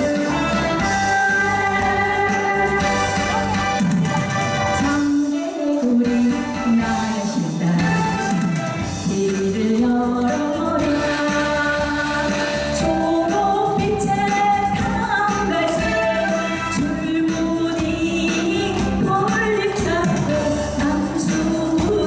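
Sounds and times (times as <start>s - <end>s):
band backing track: 0.0s - 22.0s
woman singing: 0.0s - 22.0s.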